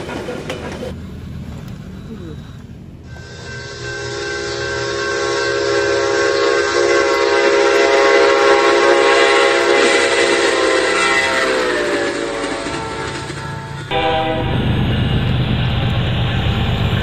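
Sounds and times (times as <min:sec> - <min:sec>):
train horn chord: 0:03.0 - 0:17.0.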